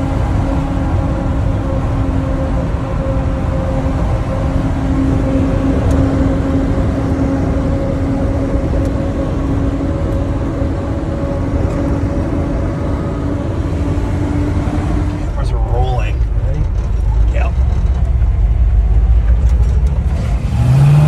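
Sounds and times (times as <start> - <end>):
tires howling on pavement: 0.0 - 21.0
truck engine rumble: 0.0 - 21.0.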